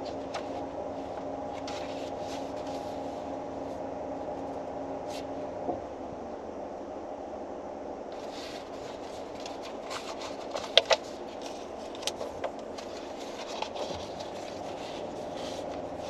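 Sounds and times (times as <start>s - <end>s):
faint soft rustles: 0.0s - 5.5s, 8.1s - 16.0s
mechanical hum in a car: 0.0s - 16.0s.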